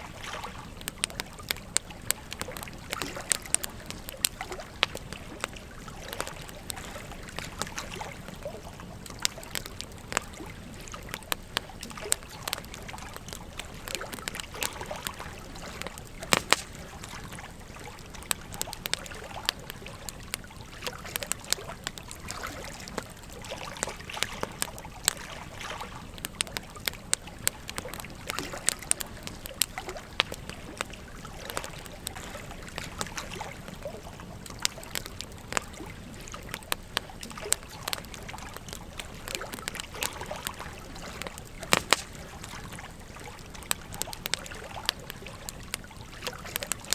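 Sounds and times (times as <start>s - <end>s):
campfire crackling: 0.0s - 46.9s
gentle stream running: 0.0s - 46.9s.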